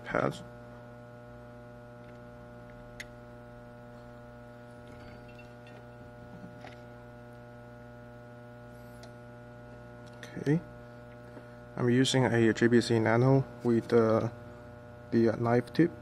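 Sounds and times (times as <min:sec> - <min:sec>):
mains electrical hum: 0:00.0 - 0:16.0.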